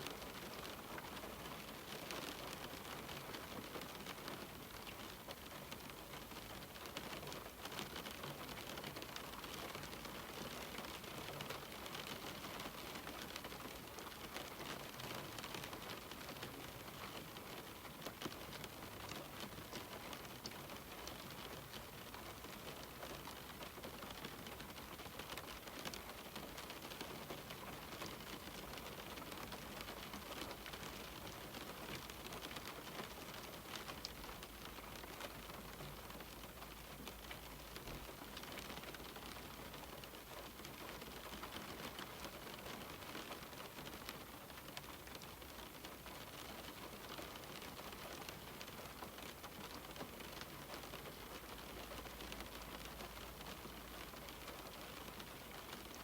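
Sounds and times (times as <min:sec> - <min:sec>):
rain on a window: 0:00.0 - 0:56.0.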